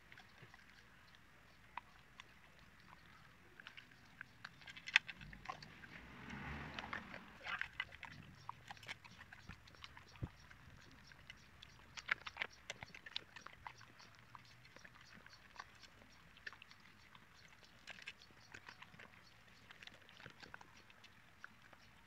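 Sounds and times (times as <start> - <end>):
dog chewing and licking treats: 0.0 - 22.0.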